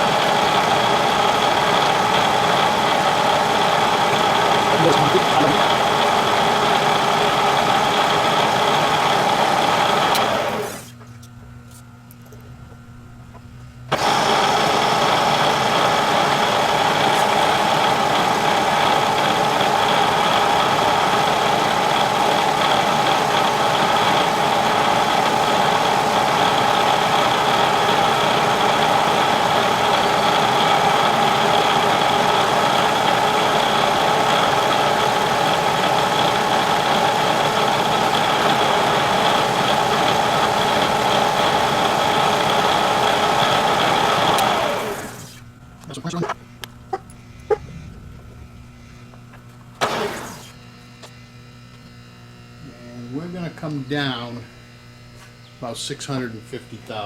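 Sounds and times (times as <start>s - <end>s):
milling machine hum and whine: 0.0s - 55.8s.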